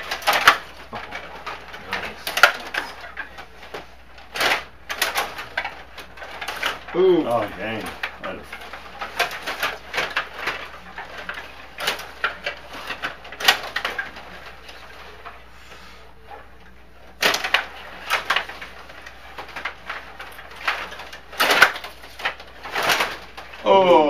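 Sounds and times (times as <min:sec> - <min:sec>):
plastic rods rattling: 0:00.0 - 0:15.5, 0:16.2 - 0:24.0.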